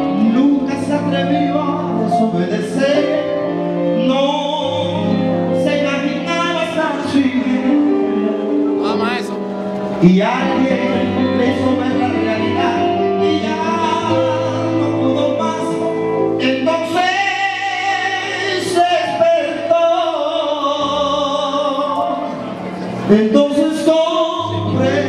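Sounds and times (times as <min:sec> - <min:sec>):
live salsa band music: 0:00.0 - 0:25.0.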